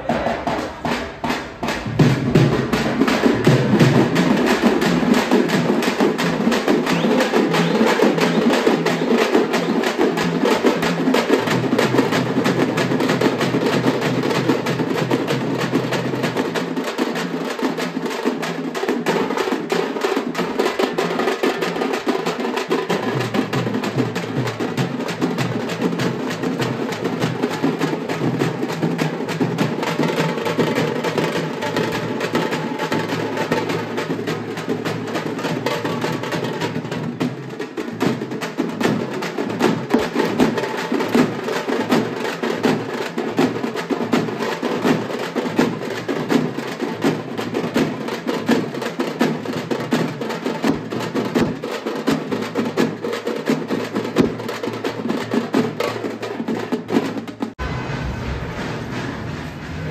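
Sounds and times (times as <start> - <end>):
large drums beating: 0.0 - 59.9
snare drum rapid strokes: 0.0 - 59.9.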